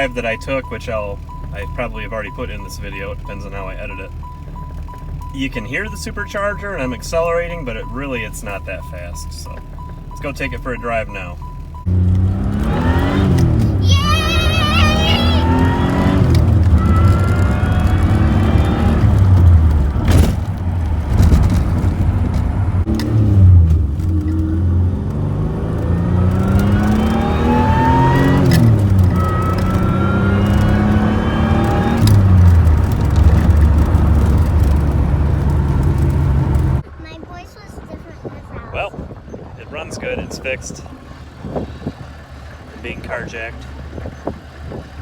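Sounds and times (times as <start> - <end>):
car engine accelerating: 0.0 - 37.2, 39.2 - 45.0.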